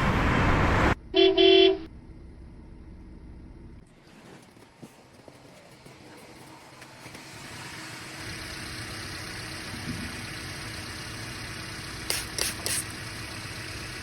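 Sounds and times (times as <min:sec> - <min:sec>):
engine idling: 0:01.1 - 0:14.0.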